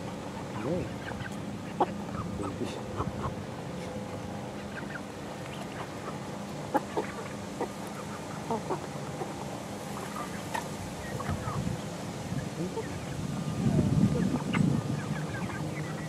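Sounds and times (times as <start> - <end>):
young chickens clucking and chirping: 0.0 - 16.0.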